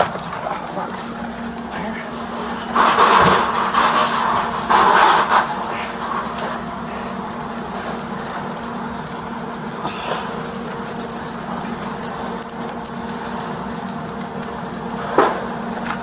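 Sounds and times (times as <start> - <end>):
metallic jingling and clicks: 0.0 - 9.4, 10.4 - 16.0
low mechanical hum: 0.0 - 16.0.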